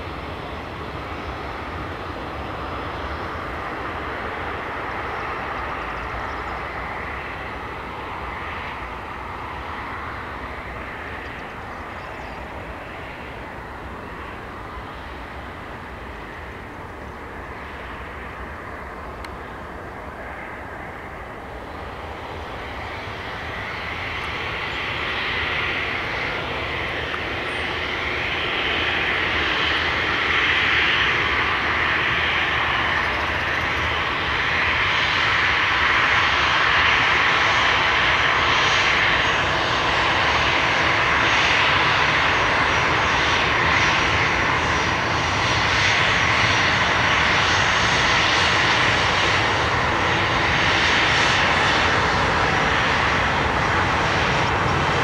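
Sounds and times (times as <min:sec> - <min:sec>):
high fan whine: 0:00.0 - 0:55.0
jet engine roar: 0:00.0 - 0:55.0.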